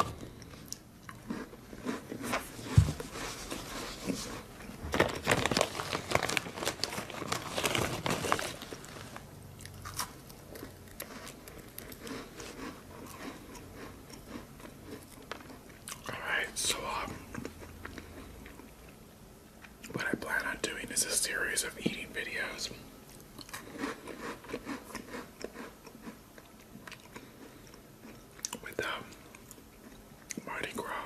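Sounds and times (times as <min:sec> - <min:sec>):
chewing crunchy biscuit: 0:00.0 - 0:19.0, 0:23.0 - 0:31.0.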